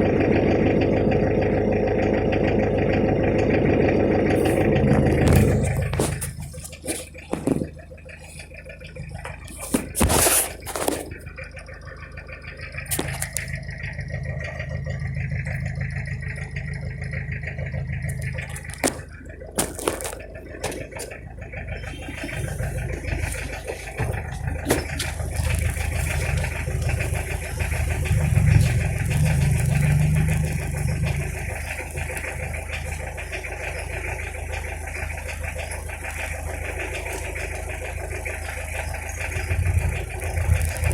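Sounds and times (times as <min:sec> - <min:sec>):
diesel engine rumbling: 0:00.0 - 0:40.9.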